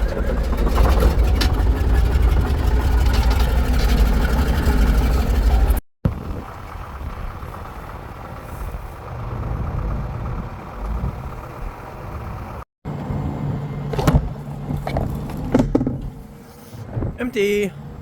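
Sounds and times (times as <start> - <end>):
farm machinery engine rumbling: 0.0 - 18.0.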